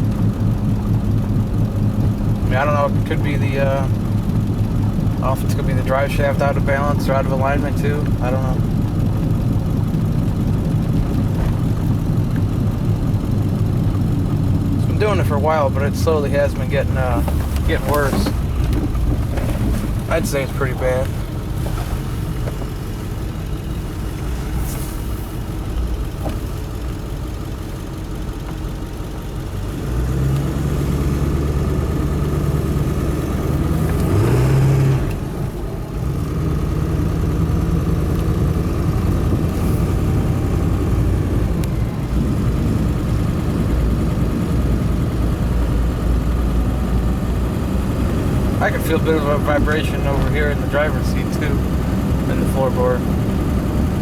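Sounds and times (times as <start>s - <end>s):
diesel engine revving: 0.0s - 54.0s
road and tyre noise: 0.0s - 54.0s.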